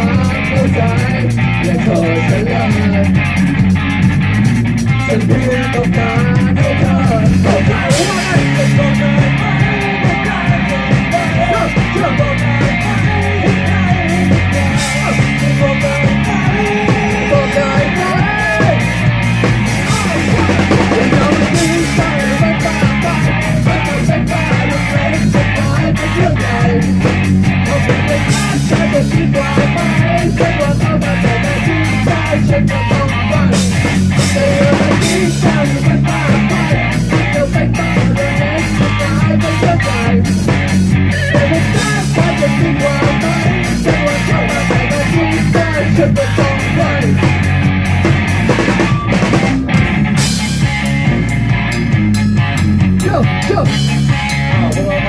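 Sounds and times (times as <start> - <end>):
drum kit beat: 0.0 - 55.0
electric guitar: 0.0 - 55.0
low bass line: 0.0 - 55.0.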